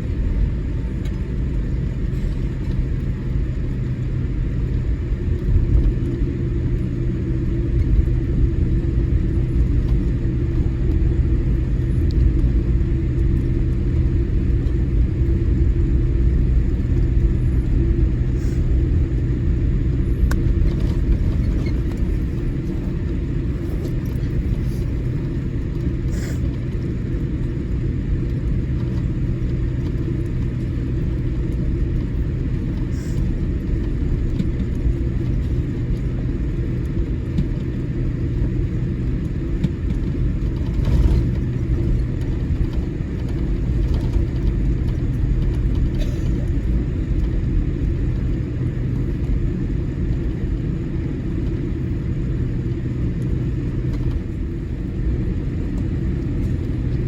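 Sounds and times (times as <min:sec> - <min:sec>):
airplane taxiing rumble: 0:00.0 - 0:57.0.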